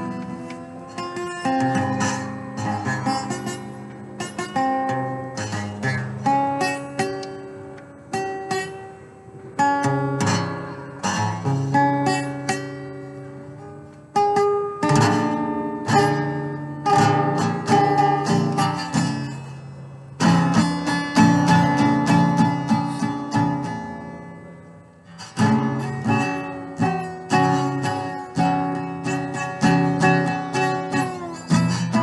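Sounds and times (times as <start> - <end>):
slide guitar fingerstyle playing: 0.0 - 32.0.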